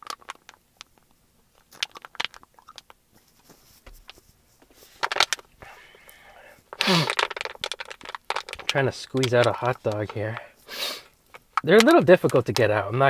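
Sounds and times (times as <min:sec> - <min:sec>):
plastic bottle crinkling: 0:00.0 - 0:12.8.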